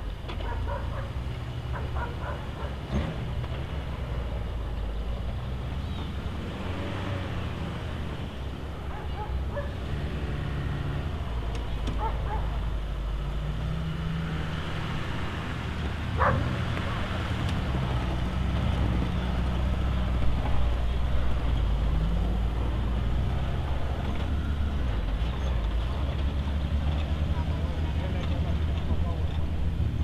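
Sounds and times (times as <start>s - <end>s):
off-road vehicle engine low revs: 0.0s - 30.0s.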